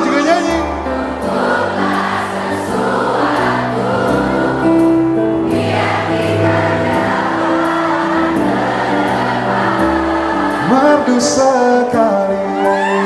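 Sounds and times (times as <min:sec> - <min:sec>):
audience singing together: 0:00.0 - 0:13.0
live pop band playing: 0:00.0 - 0:13.0.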